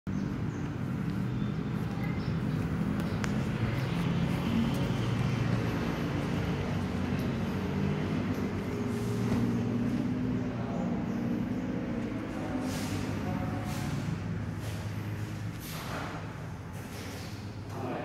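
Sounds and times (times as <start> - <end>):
road traffic rumble: 0.1 - 18.0.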